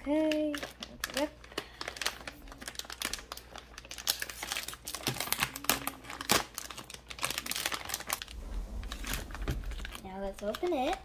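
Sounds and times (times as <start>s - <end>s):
plastic packet crinkling: 0.1s - 11.0s.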